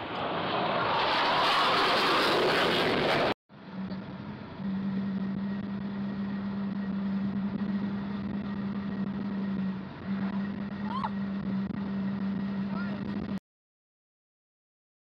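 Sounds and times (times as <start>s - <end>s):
wind and road noise: 0.0s - 13.4s.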